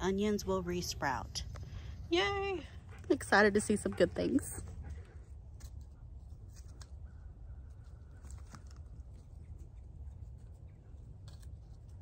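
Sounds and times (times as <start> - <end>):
rustling leaves: 0.0 - 12.0.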